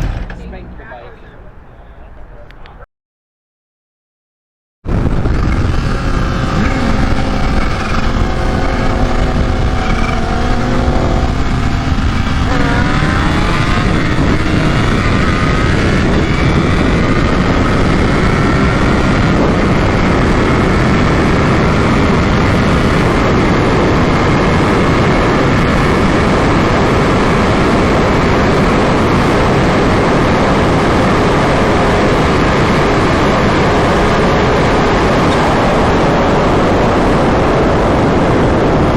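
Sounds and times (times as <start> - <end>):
engine whine: 0.0 - 2.8, 4.9 - 38.9
motorcycle engine accelerating: 4.9 - 38.9
wind rushing: 4.9 - 38.9.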